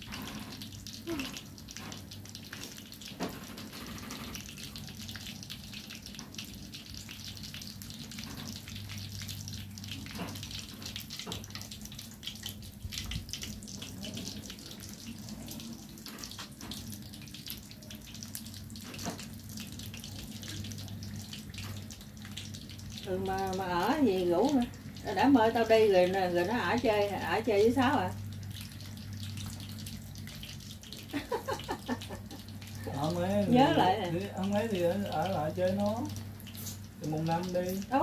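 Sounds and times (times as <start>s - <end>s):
low hum and hiss: 0.0s - 38.0s.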